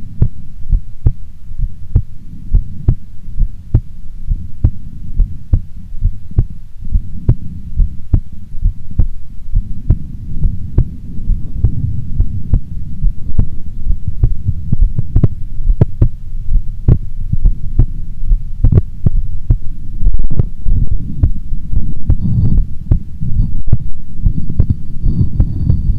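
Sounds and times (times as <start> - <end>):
constant low rumble: 0.0 - 25.9
heartbeat thuds: 0.0 - 25.9.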